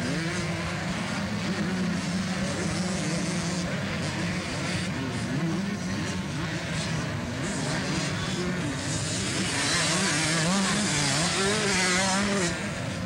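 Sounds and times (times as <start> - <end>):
motocross bikes revving past: 0.0 - 13.0.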